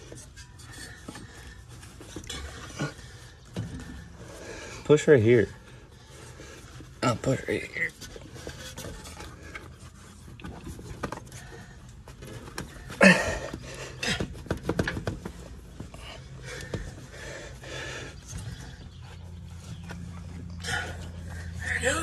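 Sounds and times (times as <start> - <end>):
men grunting and breathing hard: 0.0 - 22.0
steady low hum: 0.0 - 22.0.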